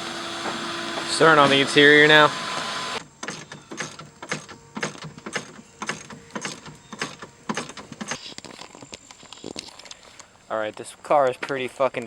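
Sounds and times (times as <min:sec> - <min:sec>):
sharp clicks and knocks: 0:00.0 - 0:10.0.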